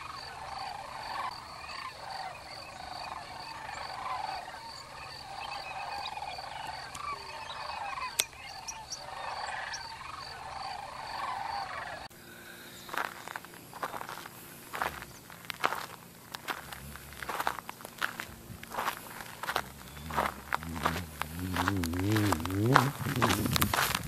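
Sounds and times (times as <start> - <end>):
chorus of wetland animals calling: 0.0 - 24.0.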